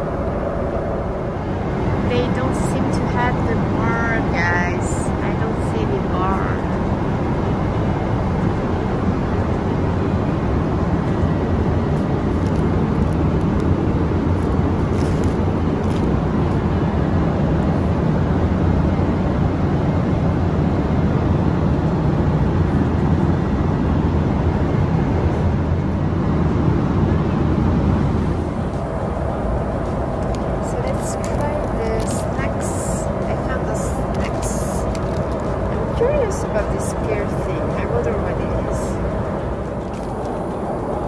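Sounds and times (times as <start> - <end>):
jet airliner cabin rumble: 0.0 - 41.0.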